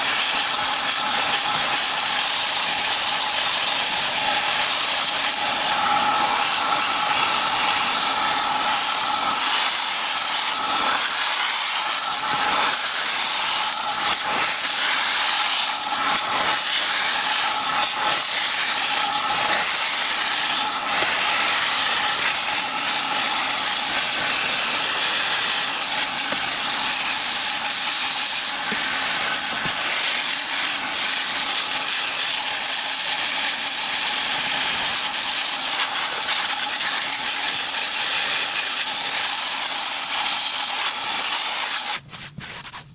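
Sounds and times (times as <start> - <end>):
loud hiss of spraying equipment: 0.0 - 42.0.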